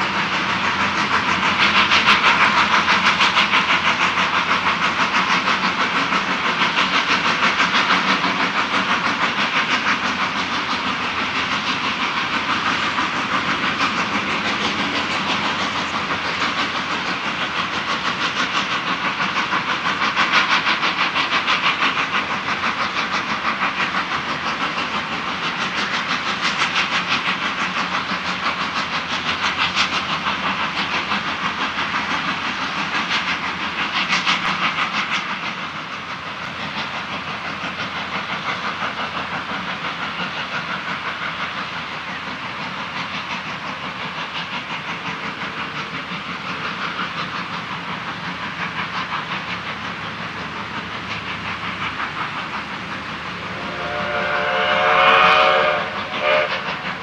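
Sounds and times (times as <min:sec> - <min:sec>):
steam locomotive exhaust beating: 0:00.0 - 0:57.0.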